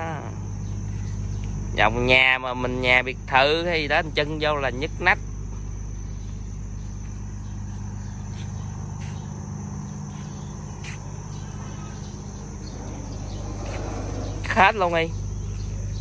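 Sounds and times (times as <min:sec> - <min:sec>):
high-pitched insect chirring: 0:00.0 - 0:16.0
low steady hum: 0:00.0 - 0:16.0.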